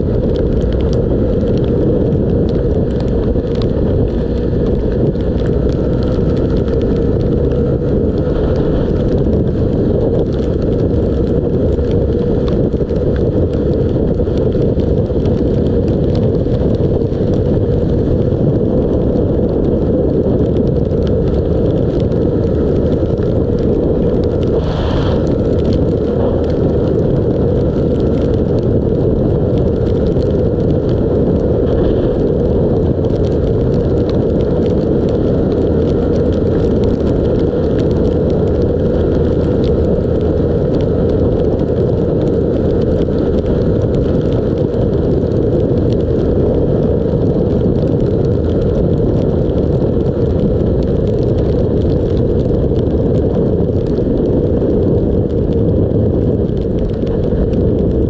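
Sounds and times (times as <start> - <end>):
motorcycle engine running: 0.0 - 58.0
wet road noise: 0.0 - 58.0
wind rushing: 0.0 - 58.0.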